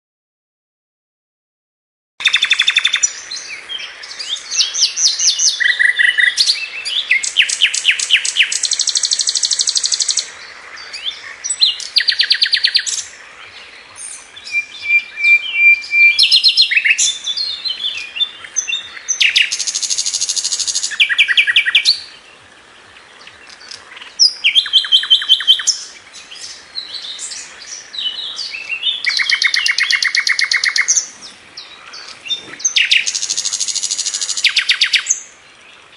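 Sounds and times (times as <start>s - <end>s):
nightingale singing: 2.2s - 35.9s.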